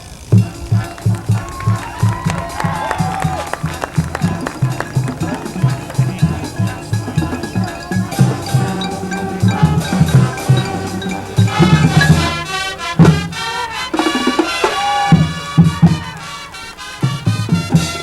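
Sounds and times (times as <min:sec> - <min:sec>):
brass and woodwind chords: 0:00.4 - 0:18.0.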